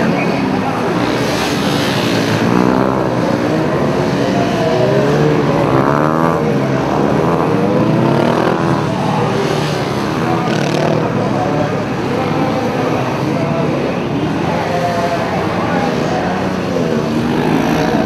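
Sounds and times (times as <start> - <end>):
motorcycle engine revving: 0.4 - 18.0.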